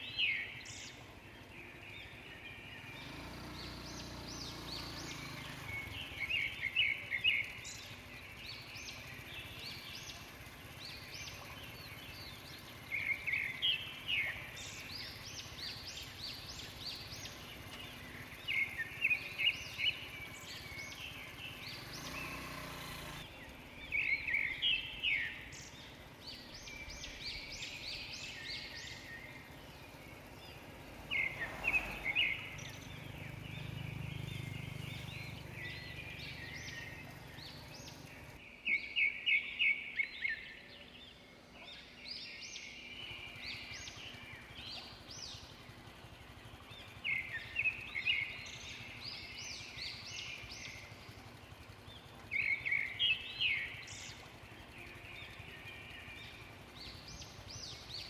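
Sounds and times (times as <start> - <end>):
low vehicle hum: 0.0 - 38.8, 39.4 - 58.0
birds chirping rapidly: 0.0 - 58.0
outdoor background noise: 0.0 - 58.0.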